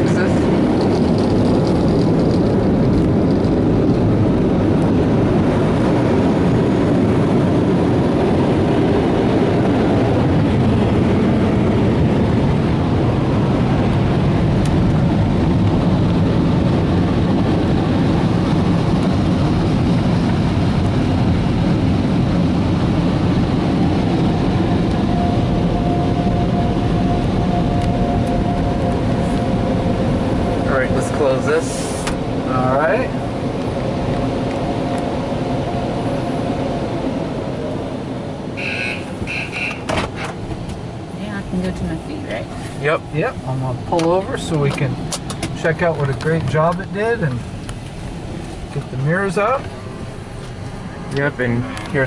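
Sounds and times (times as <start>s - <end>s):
car wash air blowers rushing: 0.0s - 52.0s
thin steady whine: 9.7s - 52.0s.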